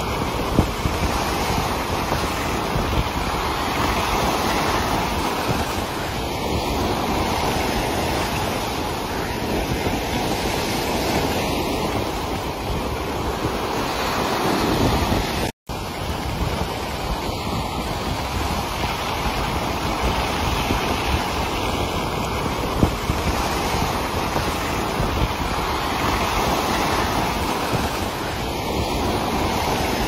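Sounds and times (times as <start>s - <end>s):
sea waves crashing into foam: 0.0s - 30.0s.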